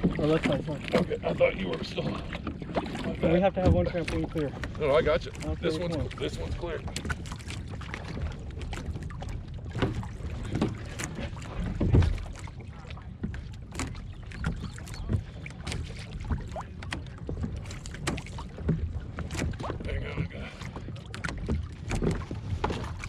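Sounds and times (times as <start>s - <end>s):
wind and water rumble on microphone: 0.0s - 23.0s.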